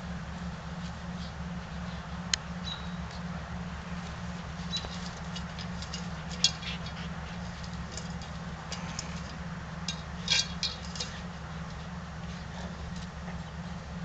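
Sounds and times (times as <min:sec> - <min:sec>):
rustling of dry leaves: 0:00.0 - 0:14.0
steady low hum: 0:00.0 - 0:14.0.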